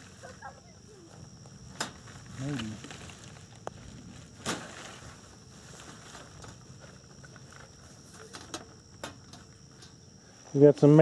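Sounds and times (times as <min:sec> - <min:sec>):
high insect trill: 0:00.0 - 0:11.0.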